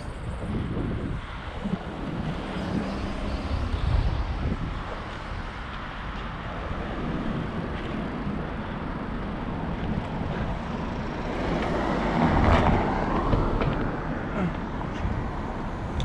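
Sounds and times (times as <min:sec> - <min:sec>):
passing traffic: 0:00.0 - 0:16.0
road noise: 0:00.0 - 0:16.0
wind rush: 0:00.0 - 0:16.0.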